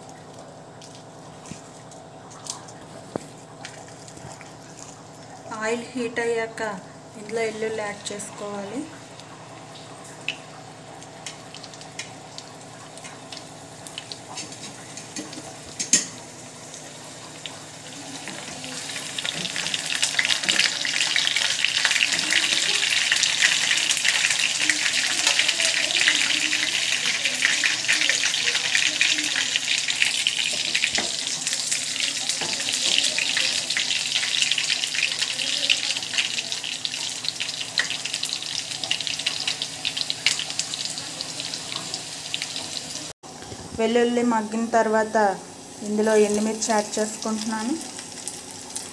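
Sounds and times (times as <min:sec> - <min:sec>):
garlic sizzling in hot oil: 0:04.8 - 0:43.1, 0:44.2 - 0:48.9.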